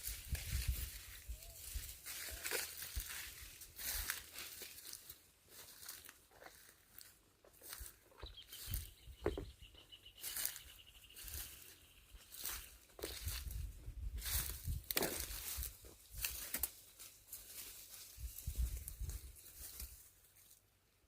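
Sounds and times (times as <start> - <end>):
dry branches crackling and rustling: 0.0 - 9.4, 10.2 - 20.6.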